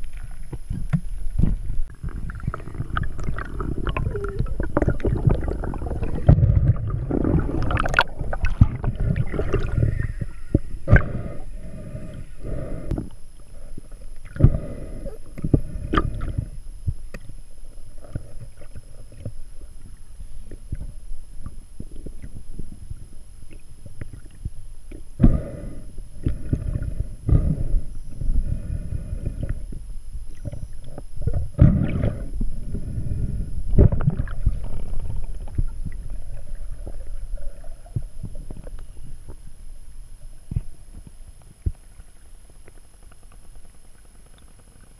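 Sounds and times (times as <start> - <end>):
water rushing and gurgling underwater: 0.0 - 44.9.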